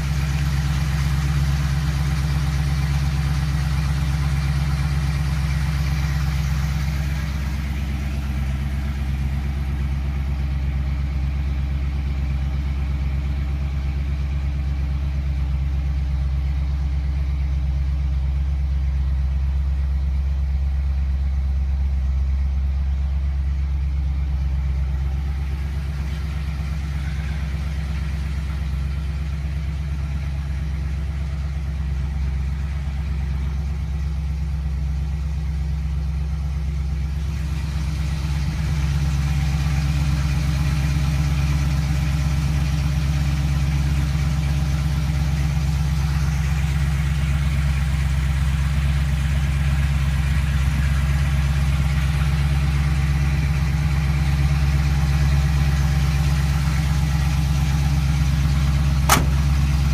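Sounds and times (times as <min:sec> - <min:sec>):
pickup engine idling: 0:00.0 - 0:59.9.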